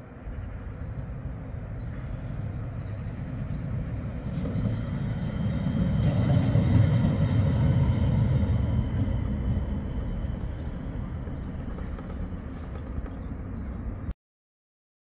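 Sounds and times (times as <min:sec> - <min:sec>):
tram rumbling: 0:00.0 - 0:14.1.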